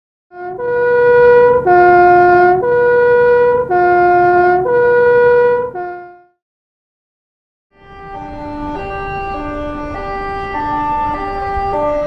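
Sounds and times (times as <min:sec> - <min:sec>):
two-tone fire truck siren: 0:00.3 - 0:06.4, 0:07.7 - 0:12.0.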